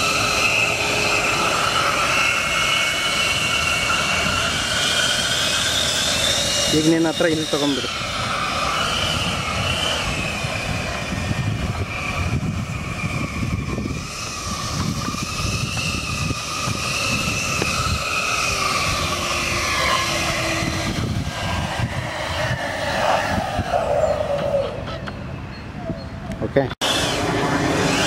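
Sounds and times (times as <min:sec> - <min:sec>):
electric motor whining: 0:00.0 - 0:25.2, 0:26.8 - 0:28.0
wind and water rumble: 0:00.0 - 0:28.0.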